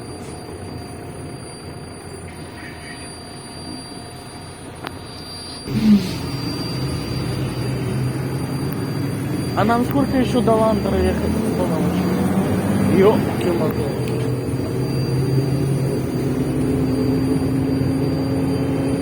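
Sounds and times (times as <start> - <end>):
bus engine and drivetrain hum: 0.0 - 19.0
thin high whine: 0.0 - 19.0.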